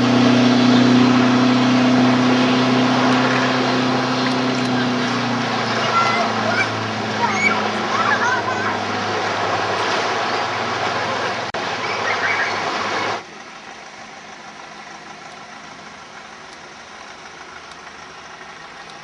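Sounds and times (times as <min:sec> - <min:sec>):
speedboat engine running: 0:00.0 - 0:19.0.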